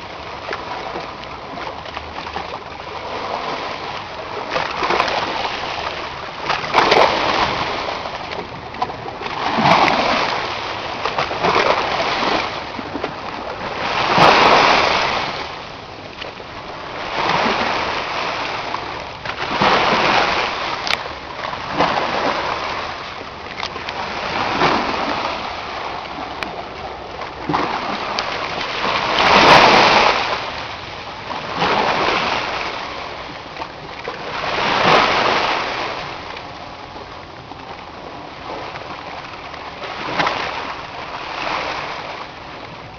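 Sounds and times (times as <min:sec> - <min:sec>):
waves breaking and splashing: 0:00.0 - 0:42.9.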